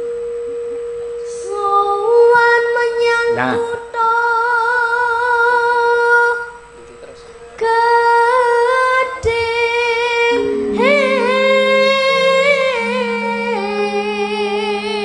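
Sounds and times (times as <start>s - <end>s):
low held tones: 0.0s - 15.0s
boy singing into a microphone: 1.3s - 6.6s, 7.6s - 15.0s.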